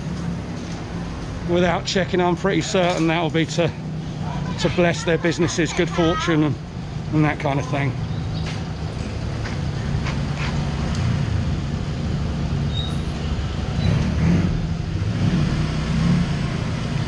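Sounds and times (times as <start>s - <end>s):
faint street noise: 0.0s - 17.0s.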